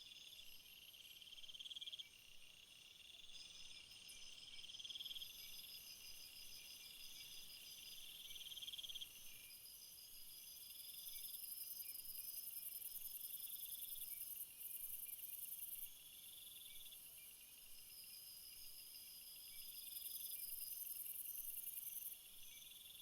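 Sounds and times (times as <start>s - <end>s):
crickets chirping: 0.1s - 23.0s.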